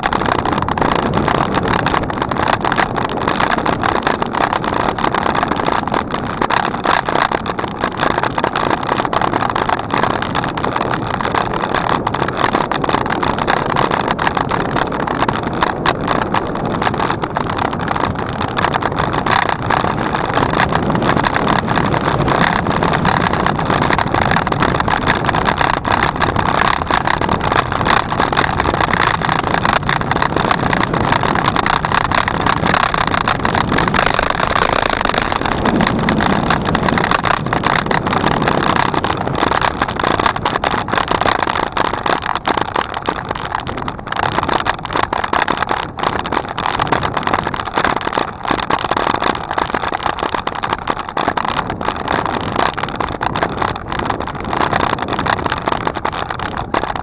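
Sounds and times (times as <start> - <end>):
bicycle rolling noise: 0.0 - 57.0
rushing wind: 0.0 - 57.0
small rattles: 0.0 - 57.0.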